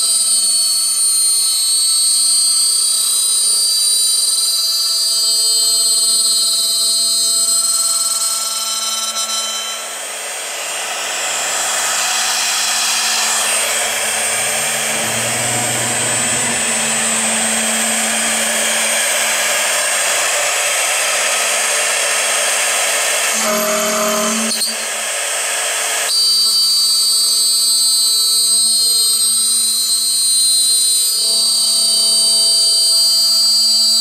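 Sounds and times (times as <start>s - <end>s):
drill bit cutting aluminum: 0.0s - 34.0s
machine spindle whining: 0.0s - 34.0s.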